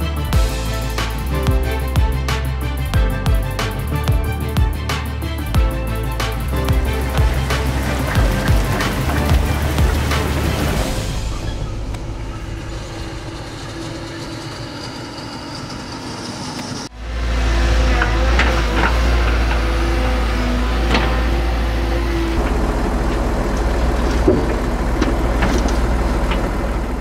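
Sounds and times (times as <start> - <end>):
excavator diesel engine rumble: 0.0 - 27.0
tractor engine running: 0.0 - 27.0.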